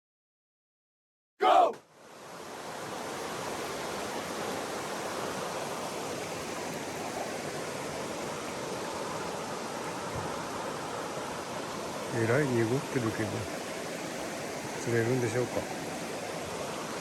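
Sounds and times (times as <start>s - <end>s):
mountain stream rushing: 1.4s - 17.0s.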